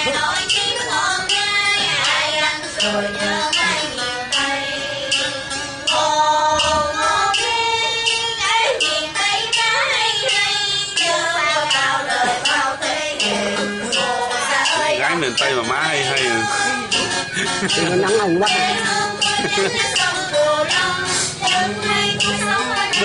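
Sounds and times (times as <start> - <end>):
woman singing in high voice: 0.0 - 15.1, 17.8 - 23.0
musical accompaniment: 0.0 - 23.0.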